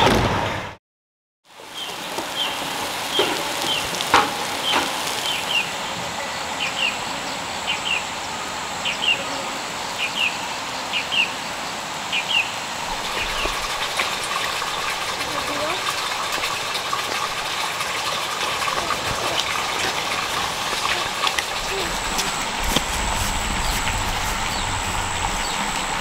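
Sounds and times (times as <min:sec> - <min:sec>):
steady hiss: 0:01.5 - 0:16.0, 0:19.0 - 0:26.0.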